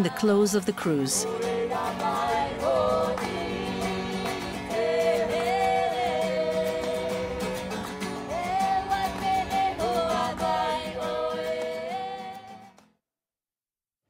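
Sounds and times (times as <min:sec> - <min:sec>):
strummed strings: 0:01.2 - 0:12.5.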